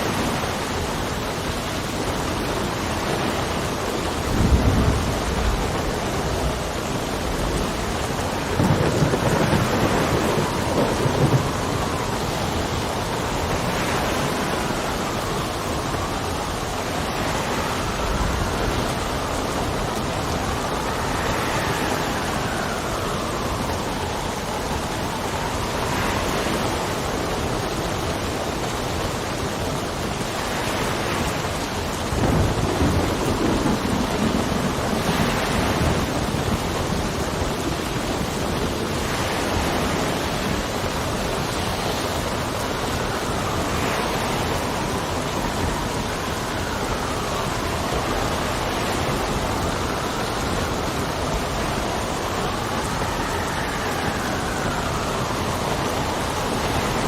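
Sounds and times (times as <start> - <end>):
low thunder rumbles: 0.0 - 27.7, 31.8 - 57.0
steady rain: 0.0 - 57.0
wind whistling: 0.0 - 57.0.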